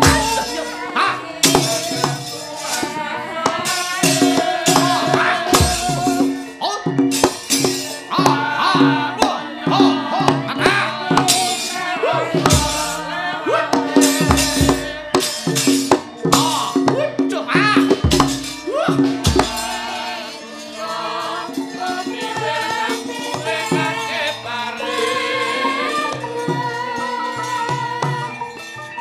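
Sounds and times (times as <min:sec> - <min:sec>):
gamelan instruments: 0:00.0 - 0:29.0.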